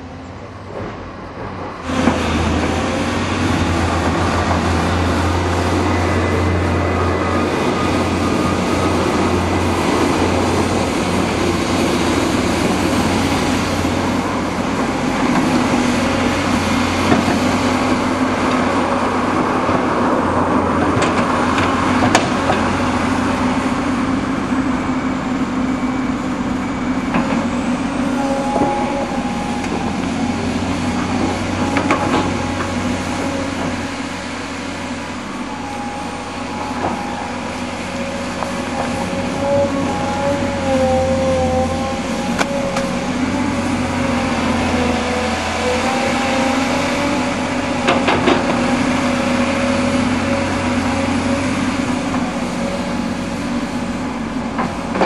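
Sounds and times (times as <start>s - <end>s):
excavator diesel engine under load: 0.0s - 55.0s.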